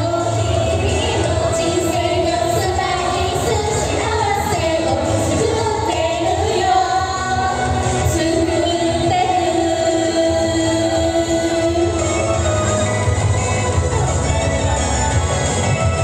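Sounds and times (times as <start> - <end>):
women singing pop song: 0.0 - 15.7
backing track with steady beat: 0.0 - 16.0.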